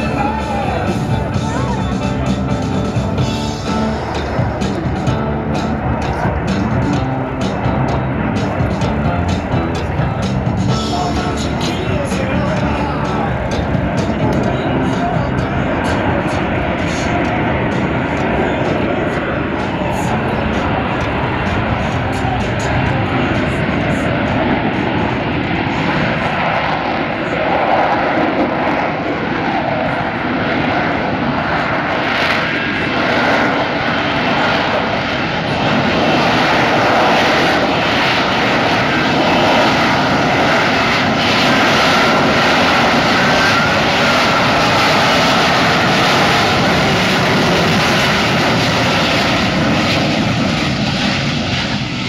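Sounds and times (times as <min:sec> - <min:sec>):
jet engine running loudly: 0:00.0 - 0:52.0.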